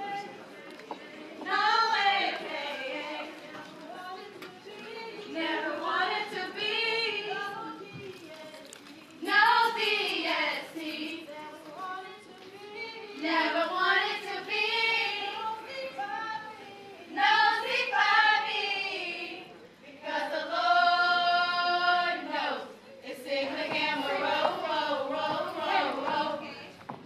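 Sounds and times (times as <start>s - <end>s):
women singing unaccompanied: 0.0s - 27.0s.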